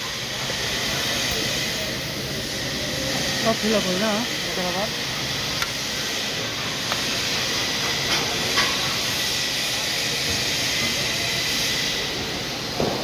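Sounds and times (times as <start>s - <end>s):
welding arc crackling hiss: 0.0s - 13.0s.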